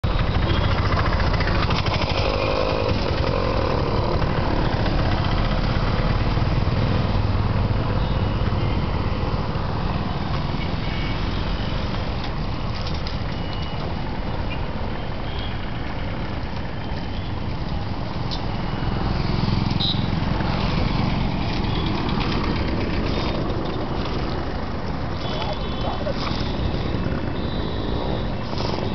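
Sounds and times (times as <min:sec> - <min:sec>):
street traffic rumbling: 0:00.0 - 0:28.9.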